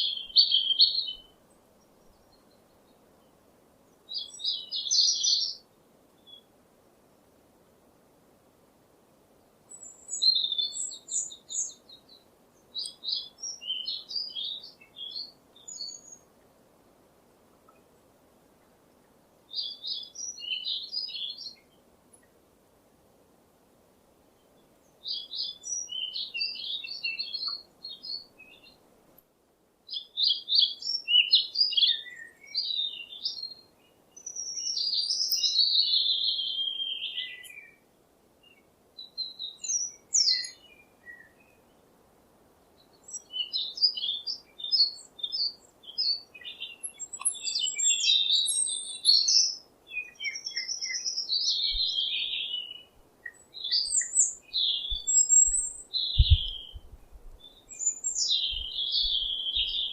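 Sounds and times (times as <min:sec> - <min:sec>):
songbird chirping and warbling: 0:00.0 - 0:06.5, 0:09.4 - 0:16.5, 0:19.5 - 0:22.3, 0:24.4 - 0:28.8, 0:29.9 - 0:41.8, 0:42.6 - 0:59.9.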